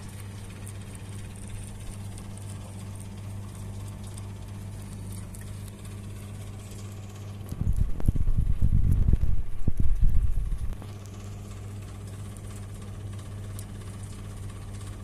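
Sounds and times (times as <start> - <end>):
rabbit chewing leaf: 0.0 - 15.0
steady low hum: 0.0 - 15.0.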